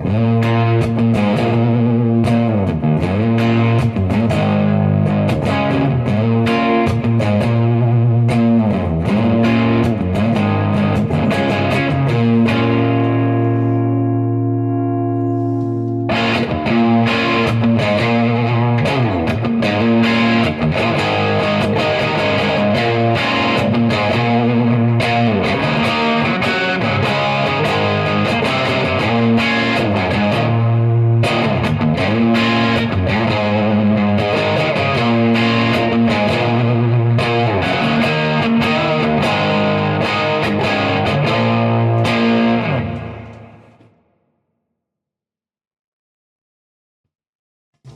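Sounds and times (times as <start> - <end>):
distorted electric guitar: 0.0 - 44.0.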